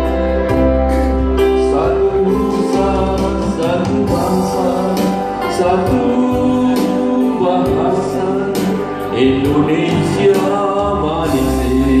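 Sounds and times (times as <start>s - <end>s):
man and woman singing together: 1.7s - 12.0s.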